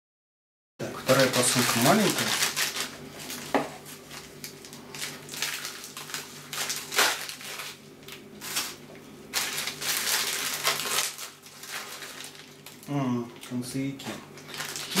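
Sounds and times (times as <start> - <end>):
packet tearing: 1.0 - 12.9, 14.4 - 15.0
packet rustling and crinkling: 1.0 - 13.6, 14.4 - 15.0.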